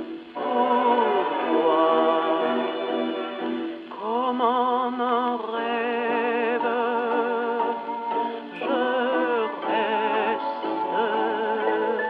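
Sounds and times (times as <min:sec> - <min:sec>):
gramophone record music: 0:00.0 - 0:12.0.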